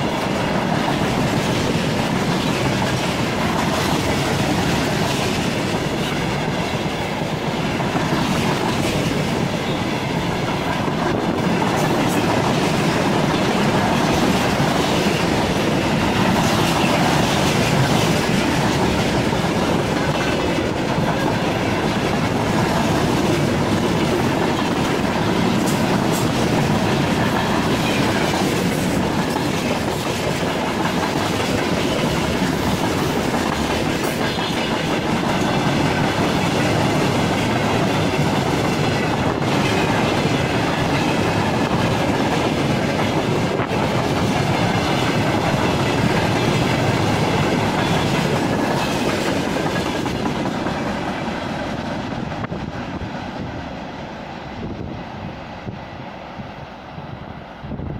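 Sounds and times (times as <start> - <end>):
wheels clacking over rail joints: 0.0 - 52.6
freight train rumbling past: 0.0 - 57.9.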